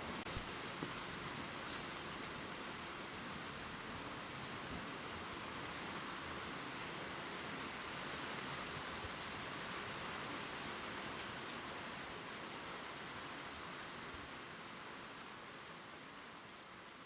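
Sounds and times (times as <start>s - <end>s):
rain falling on leaves: 0.0s - 17.0s.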